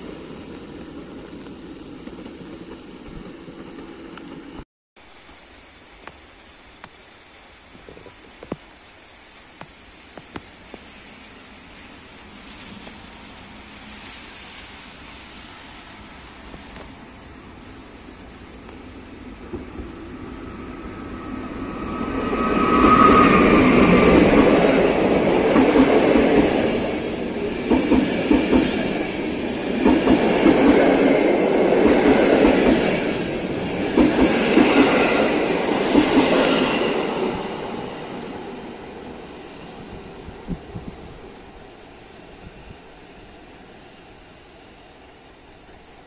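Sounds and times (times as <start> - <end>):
train passing at speed: 0.0 - 4.6, 10.6 - 46.0.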